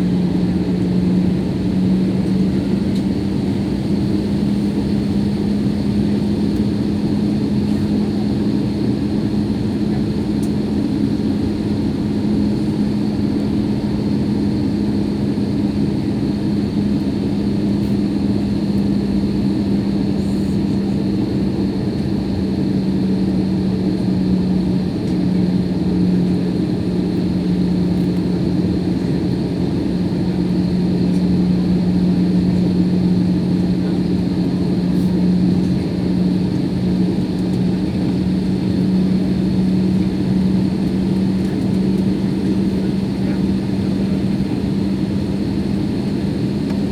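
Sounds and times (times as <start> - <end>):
jet engine drone in cabin: 0.0 - 46.9.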